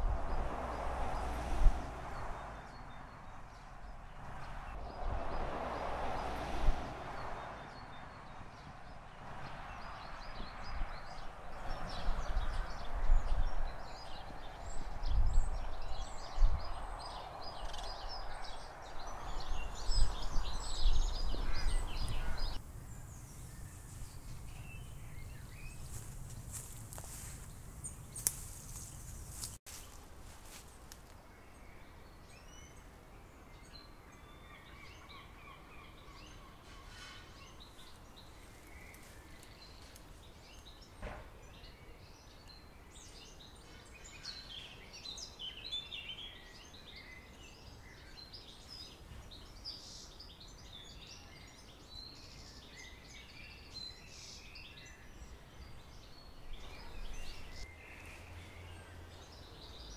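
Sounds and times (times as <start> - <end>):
faint outdoor background noise: 0.0 - 59.9
small birds chirping: 6.1 - 59.9.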